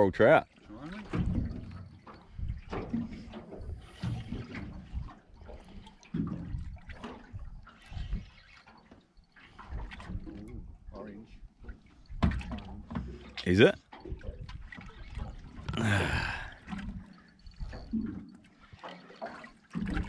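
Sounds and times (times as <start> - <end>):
water slapping against boat hull: 0.5 - 10.8, 11.6 - 15.8, 17.7 - 20.0.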